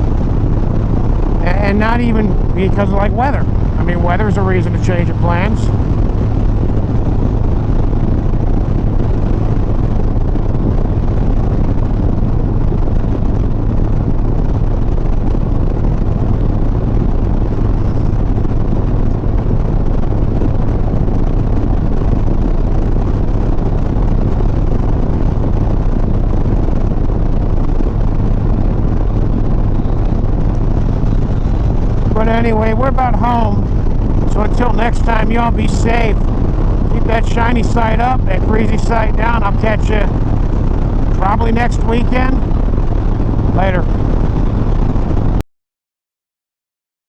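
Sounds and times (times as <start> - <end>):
motorcycle engine cruising: 0.0 - 45.4
road noise: 0.0 - 45.4
wind on microphone: 0.0 - 45.4.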